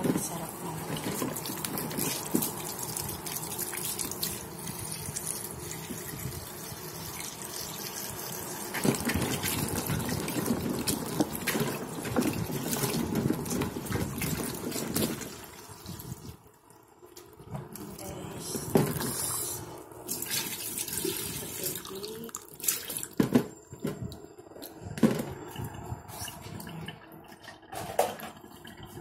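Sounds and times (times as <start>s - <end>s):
tap water running into basin: 0.0s - 29.0s.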